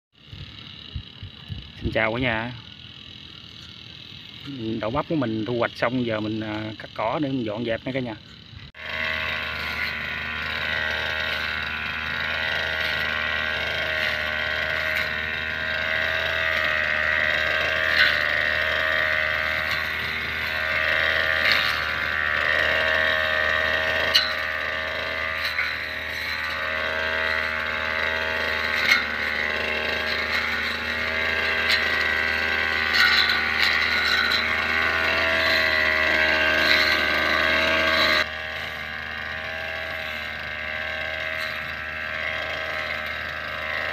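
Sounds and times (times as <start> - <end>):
brush cutter engine cutting grass: 0.1 - 43.9.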